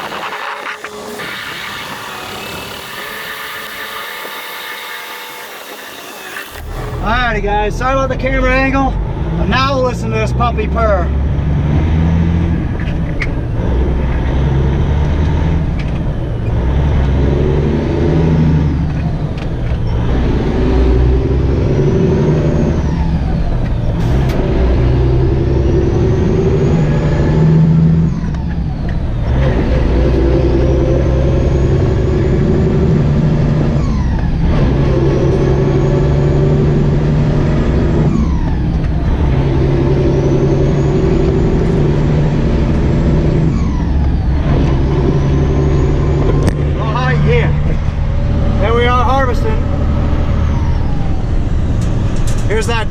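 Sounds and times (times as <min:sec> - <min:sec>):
diesel truck engine accelerating: 0:00.0 - 0:52.9.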